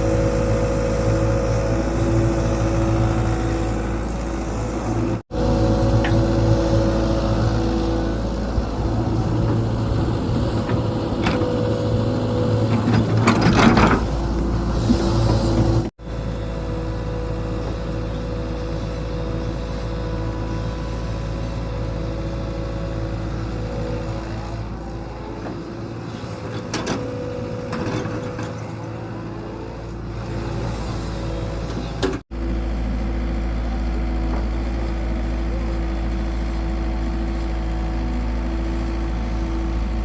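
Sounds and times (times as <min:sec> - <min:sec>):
excavator engine running: 0:00.0 - 0:40.0.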